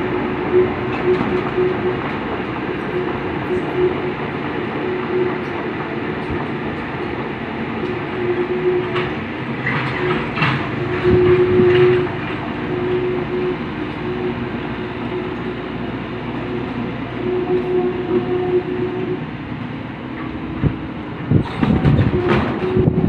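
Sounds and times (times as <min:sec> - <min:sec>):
hydraulic whine: 0:00.0 - 0:19.6
excavator diesel engine running: 0:00.0 - 0:23.0.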